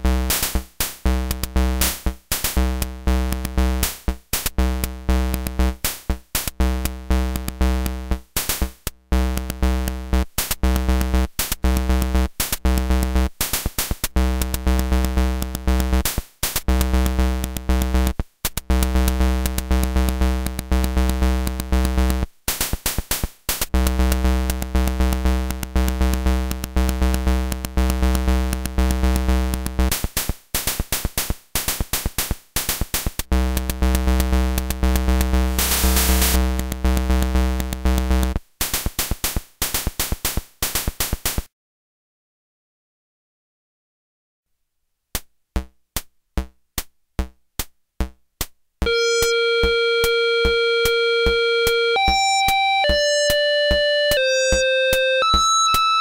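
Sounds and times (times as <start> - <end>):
buzzy electronic drum pattern: 0.0 - 41.4, 48.8 - 56.0.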